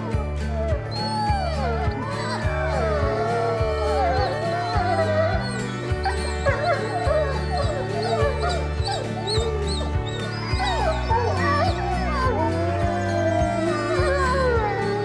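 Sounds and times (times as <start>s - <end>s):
background music with steady beat: 0.0s - 15.0s
wolf yips and whines: 0.0s - 15.0s
wolves howling: 0.0s - 15.0s.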